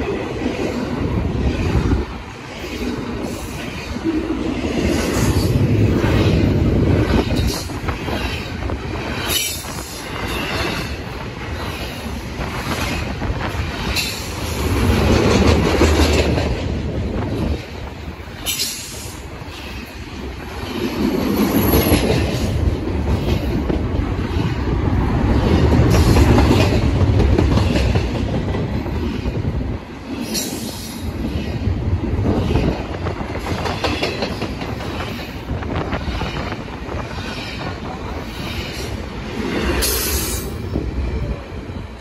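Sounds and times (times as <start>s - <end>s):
freight train passing: 0.0s - 42.0s.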